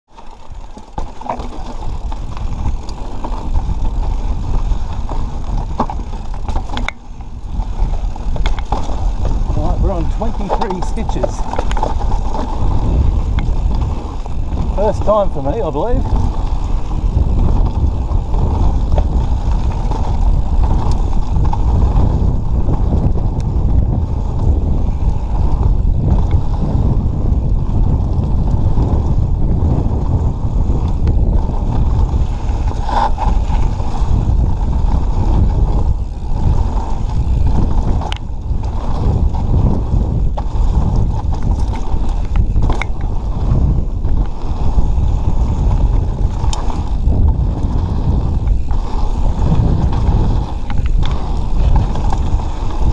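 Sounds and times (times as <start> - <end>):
bike knocks and rattles: 0.1 - 52.9
tyres rolling over dirt and rock: 0.1 - 52.9
wind buffeting microphone: 0.1 - 52.9.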